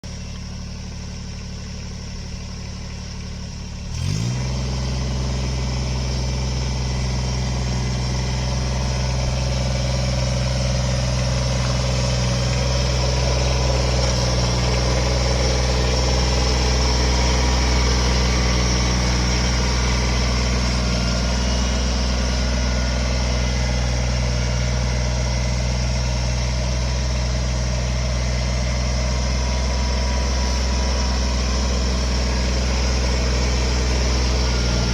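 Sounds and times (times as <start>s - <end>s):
engine running and revving: 3.6s - 34.9s.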